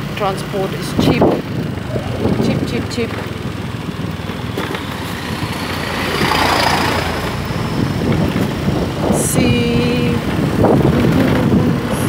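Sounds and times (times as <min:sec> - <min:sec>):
scooter engine: 0:00.0 - 0:12.0
truck passing: 0:00.0 - 0:12.0
wind rushing over microphone: 0:00.0 - 0:12.0.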